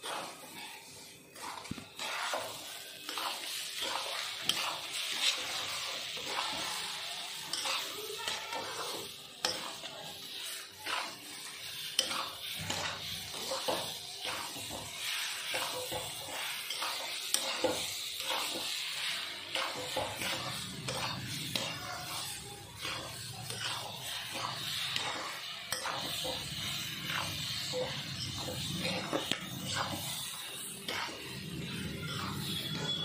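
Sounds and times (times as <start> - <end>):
utensil scraping and knocking pan: 0.0 - 6.8, 7.4 - 33.0
faint sizzle: 0.0 - 33.0.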